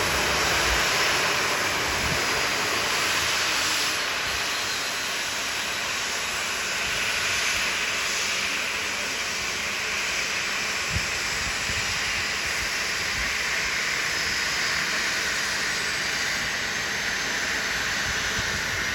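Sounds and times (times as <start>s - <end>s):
jet engines hissing: 0.0s - 18.9s.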